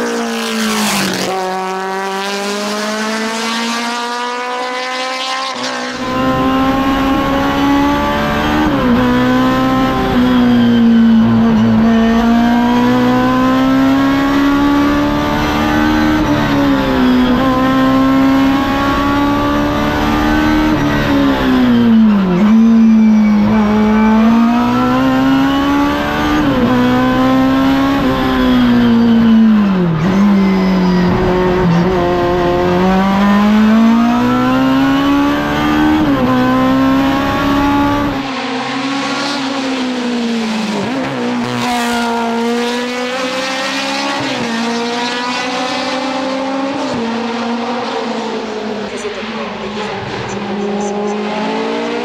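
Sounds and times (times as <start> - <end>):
race car engine at full throttle: 0.0 - 52.0
race car engine revving from roadside: 0.0 - 52.0.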